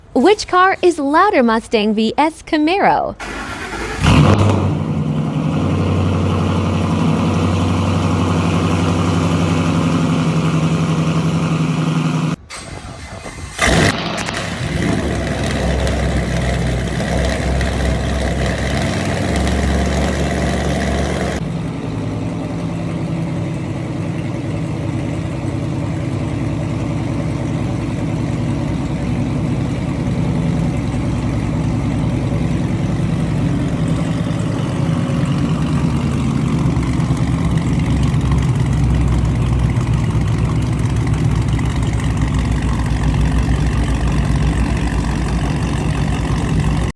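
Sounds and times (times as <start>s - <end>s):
car exhaust rumbling: 3.2s - 12.4s, 13.6s - 46.9s.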